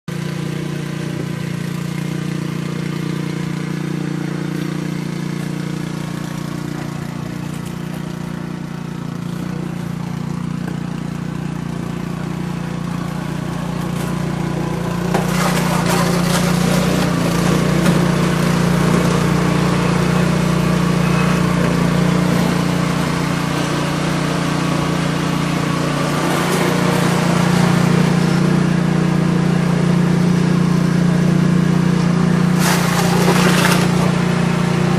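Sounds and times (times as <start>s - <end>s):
engine humming: 0.1s - 34.9s.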